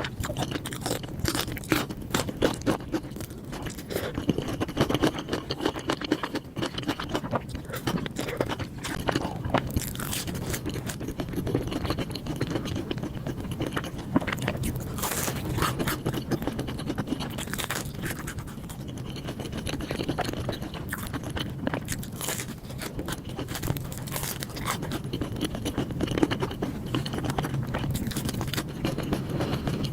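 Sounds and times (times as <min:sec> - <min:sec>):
low steady hum: 0:00.0 - 0:29.9
person chewing and crunching food: 0:00.0 - 0:29.9.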